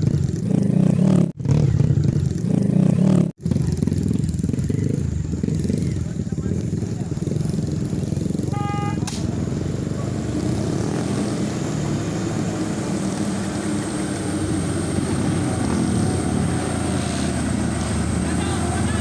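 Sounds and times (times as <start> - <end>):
truck diesel engine running: 3.4 - 19.0.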